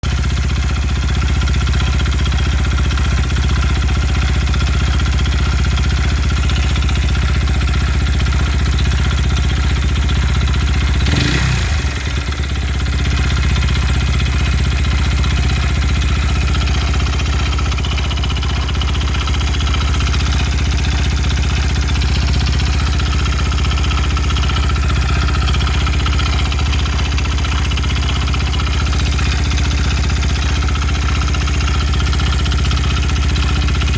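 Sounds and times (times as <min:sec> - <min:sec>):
small engine running steadily: 0:00.0 - 0:33.9.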